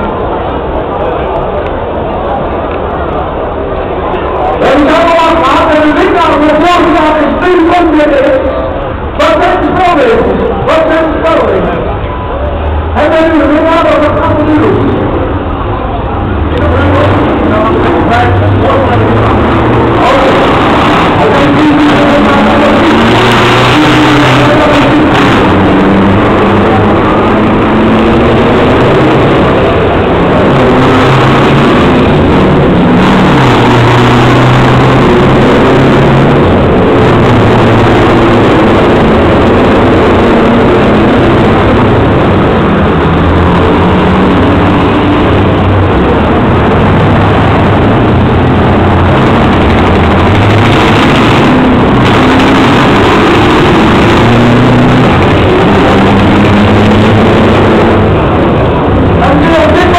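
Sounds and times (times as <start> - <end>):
heavy truck engine drone: 0.0 - 59.9.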